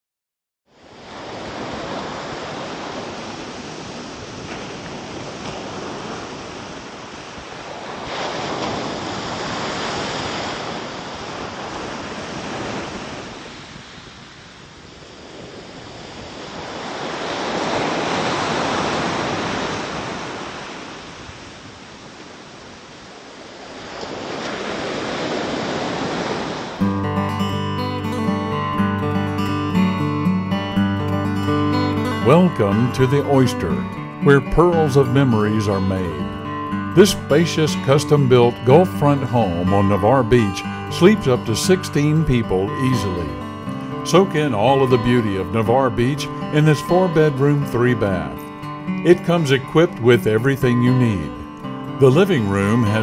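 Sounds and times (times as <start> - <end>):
ocean waves breaking: 0.7 - 53.0.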